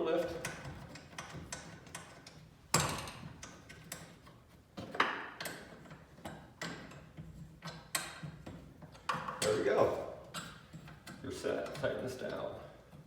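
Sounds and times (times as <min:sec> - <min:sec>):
sharp metal clicks and knocks: 0:00.3 - 0:13.0.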